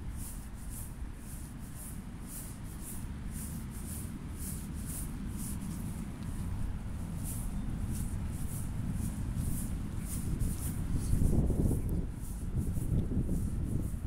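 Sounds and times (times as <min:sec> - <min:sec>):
footsteps on paved path: 0:00.0 - 0:14.0
wind rumble on microphone: 0:00.0 - 0:14.0.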